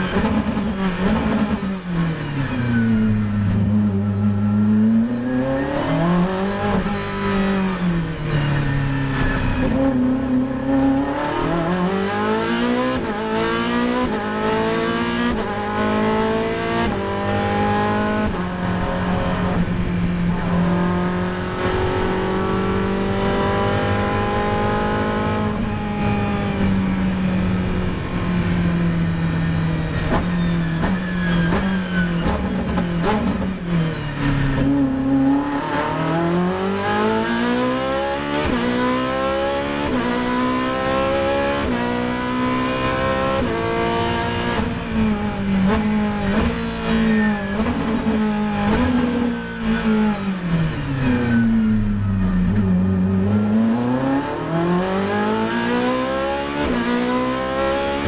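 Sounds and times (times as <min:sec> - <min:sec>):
racing car engine accelerating: 0:00.1 - 0:58.0.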